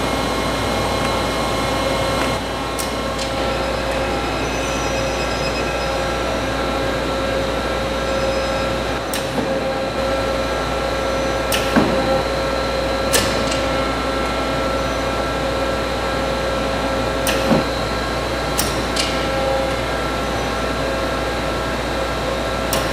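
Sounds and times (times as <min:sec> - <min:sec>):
machine mechanical hum: 0:00.0 - 0:22.9
steady machine tones: 0:00.0 - 0:22.9.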